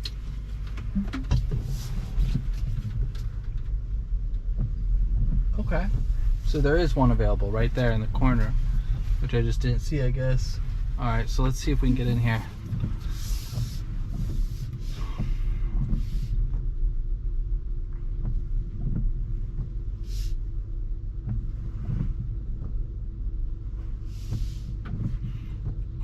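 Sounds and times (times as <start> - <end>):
low cabin rumble: 0.0 - 26.0.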